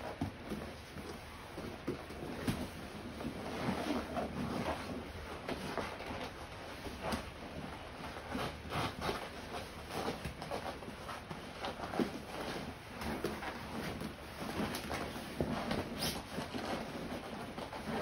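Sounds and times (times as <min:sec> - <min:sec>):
scuffs and thumps on foam mats: 0:00.0 - 0:18.0.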